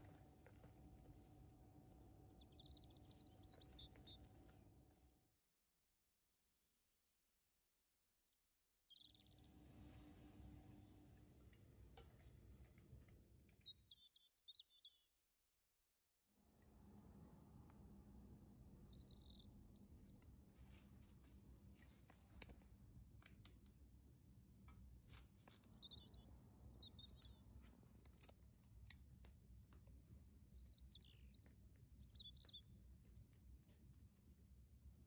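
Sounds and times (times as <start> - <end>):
low steady hum: 0.0 - 5.2, 9.0 - 13.8, 16.4 - 35.0.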